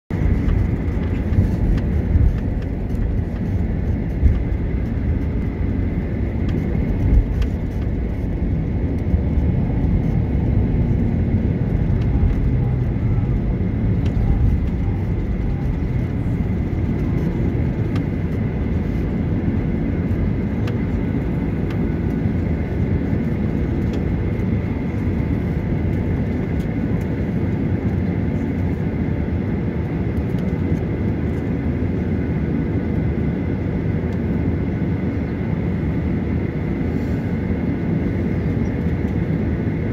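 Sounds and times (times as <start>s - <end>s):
aircraft rolling rumble: 0.1s - 39.9s
jet engines at low power: 0.1s - 39.9s.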